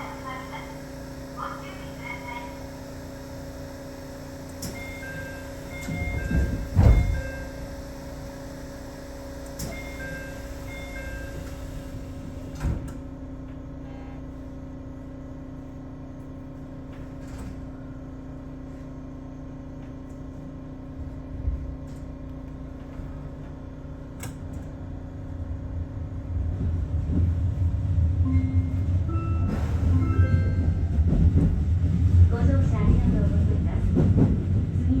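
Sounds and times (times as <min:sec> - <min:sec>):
train rumble: 0:04.5 - 0:08.7, 0:09.6 - 0:35.0.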